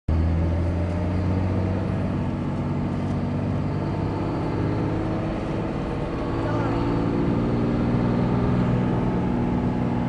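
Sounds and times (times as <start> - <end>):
diesel engine running: 0.1 - 10.0.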